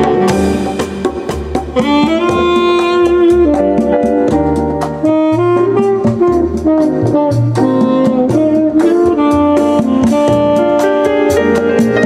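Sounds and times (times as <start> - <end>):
saxophone notes: 0.0 - 12.0
steady cymbal beat: 0.0 - 12.0
walking bass line: 0.0 - 12.0.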